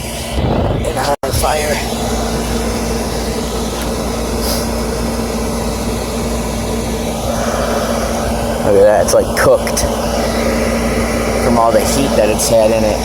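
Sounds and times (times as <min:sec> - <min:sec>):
gas furnace humming: 0:00.0 - 0:13.0.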